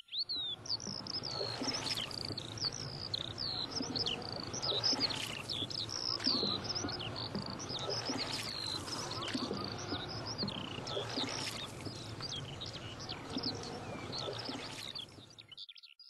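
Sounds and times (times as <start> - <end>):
birds chirping and whistling: 0.2 - 15.6.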